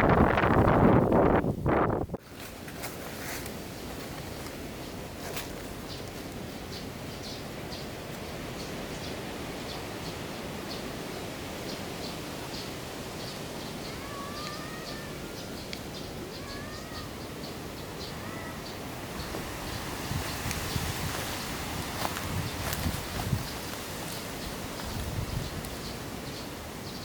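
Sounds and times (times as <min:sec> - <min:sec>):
steady background hiss: 0:00.0 - 0:27.0
small birds chirping: 0:03.7 - 0:27.0.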